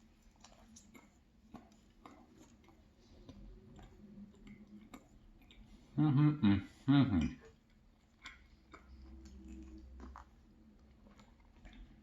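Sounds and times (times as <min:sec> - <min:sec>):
chewing pastry: 0:00.0 - 0:12.0.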